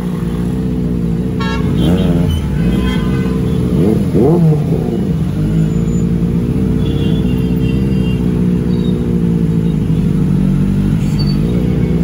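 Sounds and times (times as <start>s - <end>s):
motorcycle engine running low revs: 0.0s - 12.0s.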